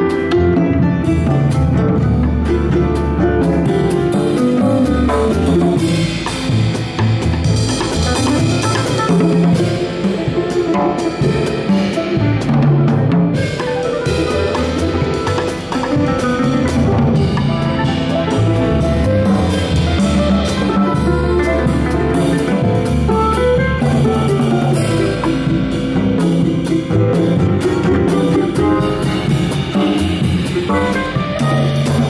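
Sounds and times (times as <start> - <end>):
bass: 0.0 - 32.0
drums on toms and cymbals: 0.0 - 32.0
piano: 0.0 - 32.0.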